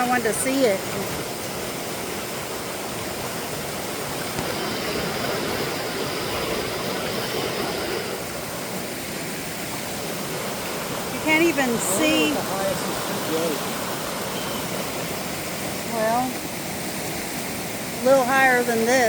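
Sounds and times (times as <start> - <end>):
creek rushing: 0.0 - 19.0.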